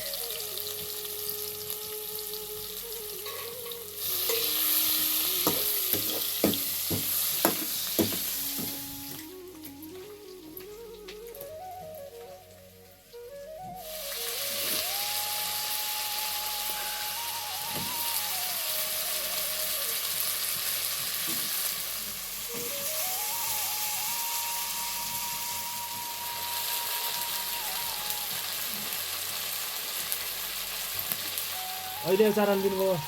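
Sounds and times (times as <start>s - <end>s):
slow single-line melody: 0.0s - 6.9s, 8.0s - 20.7s, 22.3s - 29.2s, 31.4s - 33.0s
food sizzling in hot oil: 0.0s - 33.0s.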